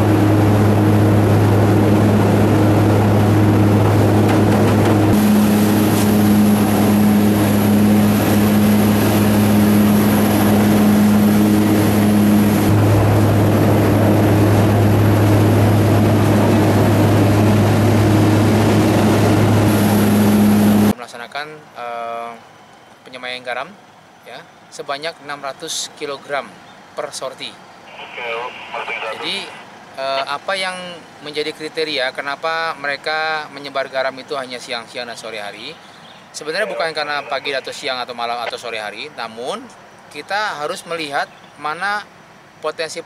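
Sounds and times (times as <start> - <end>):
propeller aircraft engines droning: 0.0 - 21.0, 27.6 - 33.6, 35.2 - 43.0.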